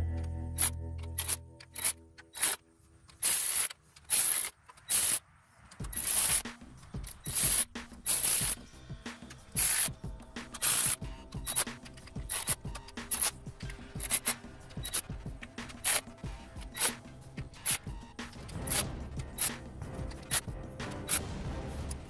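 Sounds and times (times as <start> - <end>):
ratchet wrench ratcheting: 0.6 - 8.6, 9.3 - 9.9, 10.5 - 19.6.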